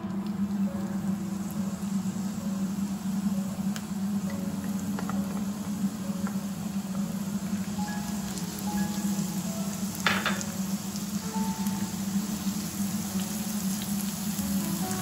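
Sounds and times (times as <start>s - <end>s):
faint background music: 0.0s - 15.0s
onion frying in oil: 0.0s - 15.0s.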